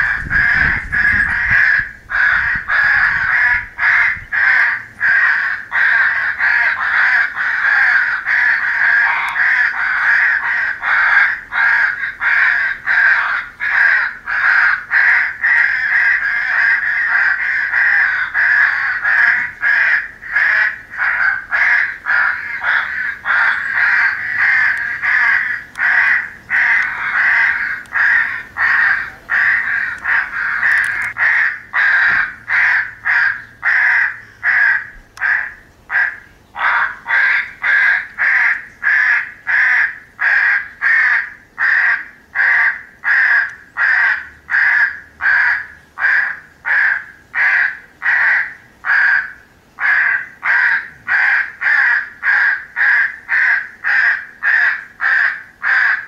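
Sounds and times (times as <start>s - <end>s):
crows cawing: 0.0s - 56.0s.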